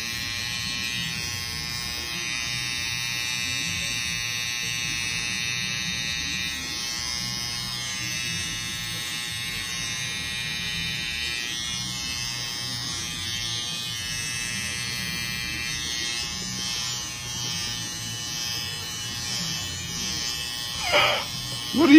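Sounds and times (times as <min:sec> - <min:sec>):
hair trimmer buzzing: 0:00.0 - 0:21.9.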